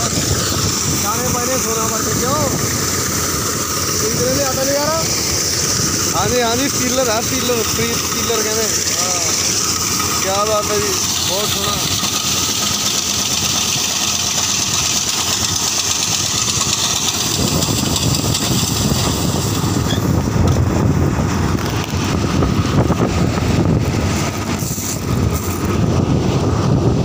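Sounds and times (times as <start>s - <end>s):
combine harvester running: 0.0s - 27.0s
heavy low rumble: 0.0s - 27.0s.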